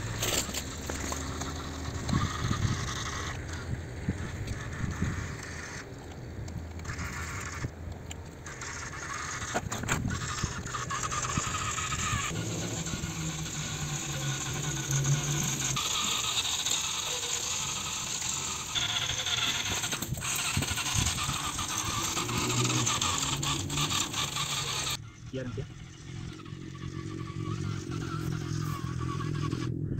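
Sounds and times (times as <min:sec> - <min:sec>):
light gear rattle: 0:00.0 - 0:05.8, 0:06.8 - 0:25.0
toy electric motor whirring: 0:00.0 - 0:29.9.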